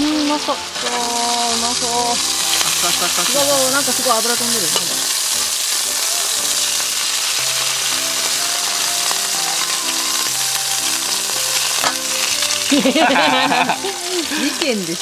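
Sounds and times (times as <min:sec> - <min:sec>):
eggs sizzling in oil: 0:00.0 - 0:15.0
egg cracking: 0:02.2 - 0:15.0.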